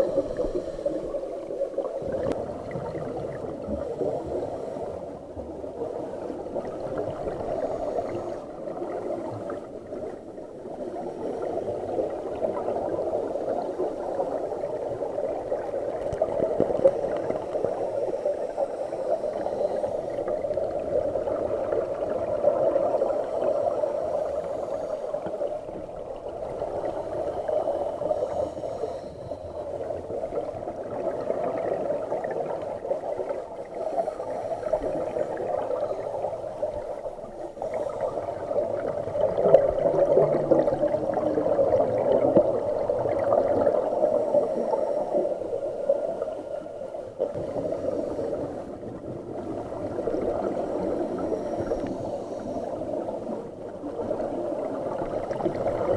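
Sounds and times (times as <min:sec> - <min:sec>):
regulator bubbles gurgling underwater: 0:00.0 - 0:55.9.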